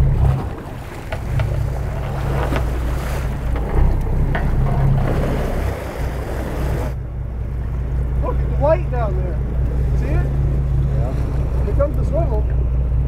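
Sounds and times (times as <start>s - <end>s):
boat engine running: 0.0s - 13.0s
water washing against hull: 0.0s - 13.0s.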